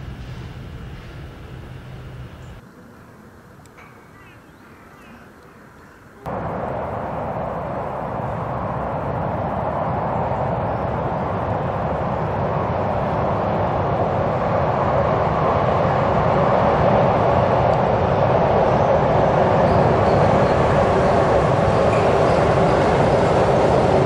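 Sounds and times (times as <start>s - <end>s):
freight train rumbling over bridge: 0.0s - 2.6s, 6.2s - 24.0s.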